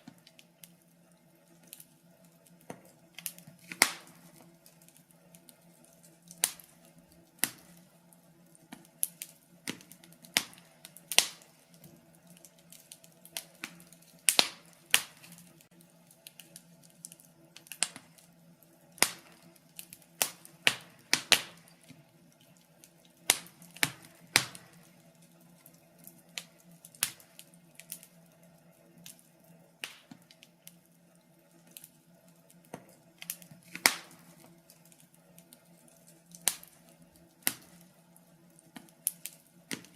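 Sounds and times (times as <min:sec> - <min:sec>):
fire pops and snaps: 0:00.0 - 0:39.9
wood fire crackling: 0:00.0 - 0:39.9.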